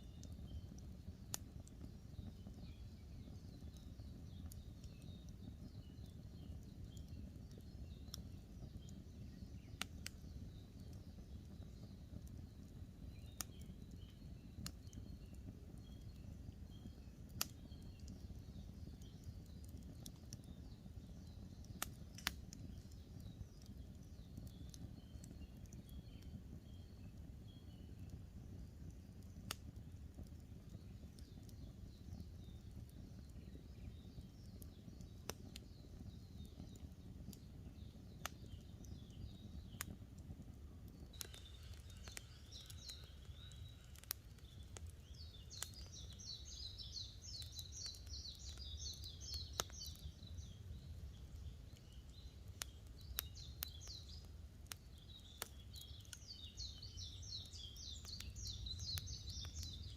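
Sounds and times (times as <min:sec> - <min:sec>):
campfire crackling and popping: 0:00.0 - 0:59.9
songbirds chirping: 0:00.0 - 0:59.9.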